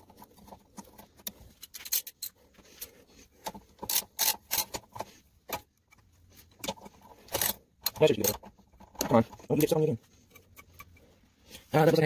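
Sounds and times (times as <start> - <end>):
wire scraping engine case: 0.0 - 12.0.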